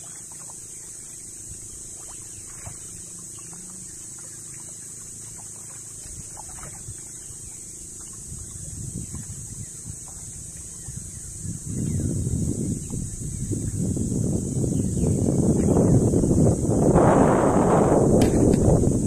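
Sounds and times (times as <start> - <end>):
water splashing against boat: 0.0 - 13.9, 15.1 - 19.0
wind and sea rumble: 0.0 - 19.0.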